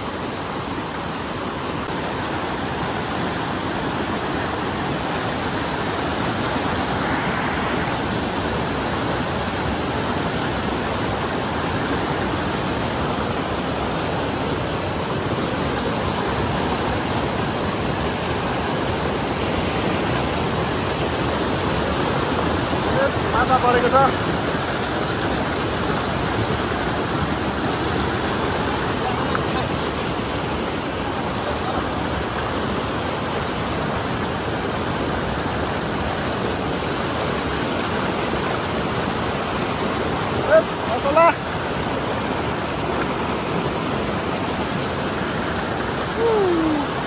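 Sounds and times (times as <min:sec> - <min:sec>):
river rapids rushing over boulders: 0:00.0 - 0:47.0.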